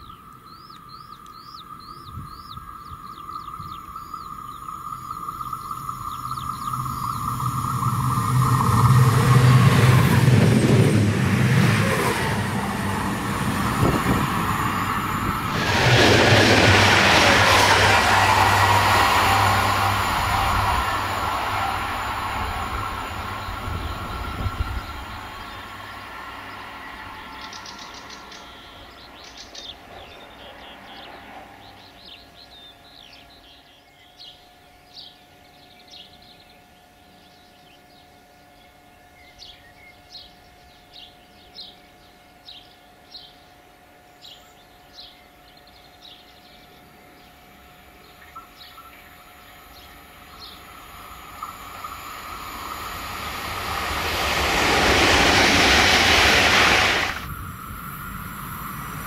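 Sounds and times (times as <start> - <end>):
birds chirping: 0.0 - 43.5, 44.2 - 57.3
electric train running: 3.4 - 33.2, 40.0 - 59.0.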